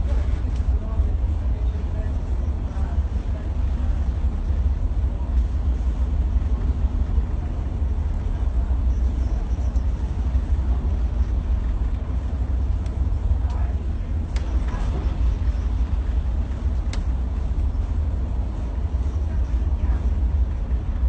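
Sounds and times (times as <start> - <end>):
vehicle rumbling: 0.0 - 21.0.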